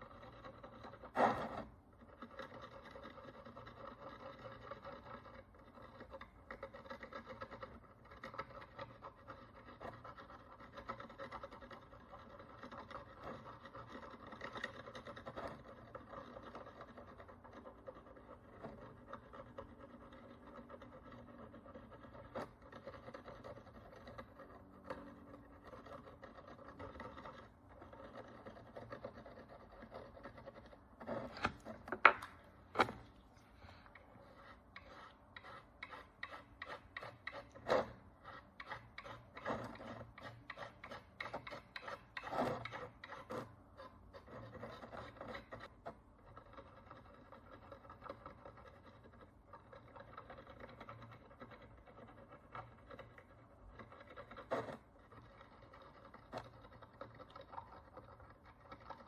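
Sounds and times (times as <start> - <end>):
tool scratching a coin: 0.0 - 33.0, 33.6 - 59.0.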